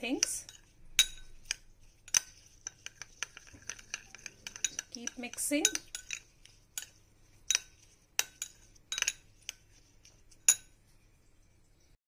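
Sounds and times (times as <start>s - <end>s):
metal spoon clinking in bowl: 0.0s - 10.9s.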